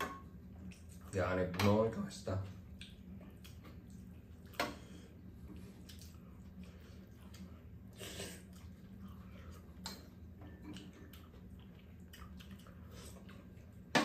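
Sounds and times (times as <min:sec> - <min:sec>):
low steady hum: 0:00.0 - 0:14.0
chewing: 0:00.5 - 0:01.1, 0:02.6 - 0:13.9.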